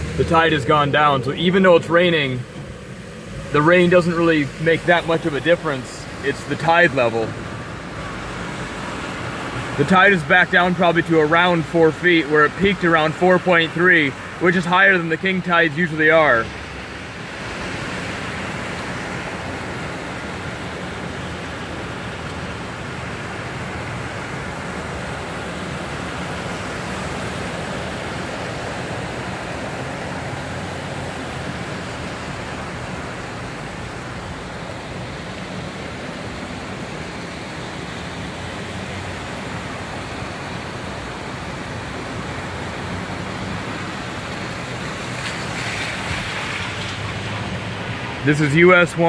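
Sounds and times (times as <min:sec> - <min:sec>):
low engine hum: 0:00.0 - 0:49.0
tyres hissing on wet road: 0:00.0 - 0:49.0.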